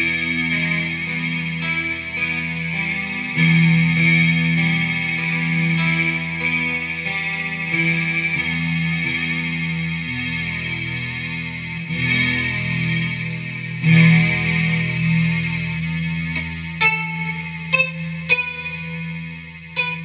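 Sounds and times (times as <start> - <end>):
synth-like electric guitar tones: 0.0 - 20.0.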